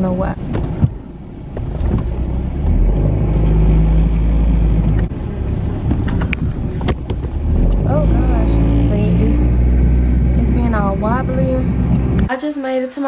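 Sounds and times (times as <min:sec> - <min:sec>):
car engine and road rumble: 0:00.0 - 0:12.3.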